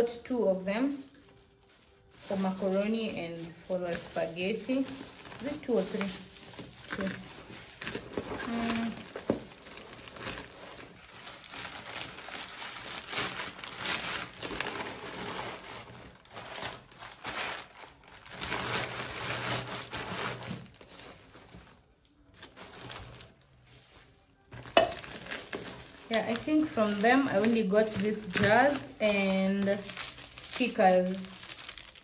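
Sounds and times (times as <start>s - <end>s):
plastic wrapping crinkling: 0.0s - 32.0s.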